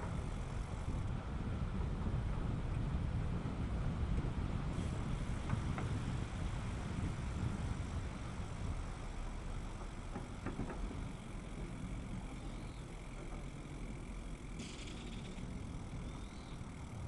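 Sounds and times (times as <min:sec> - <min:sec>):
bicycle tyres rolling: 0:00.0 - 0:17.0
wind buffeting microphone: 0:00.0 - 0:17.0.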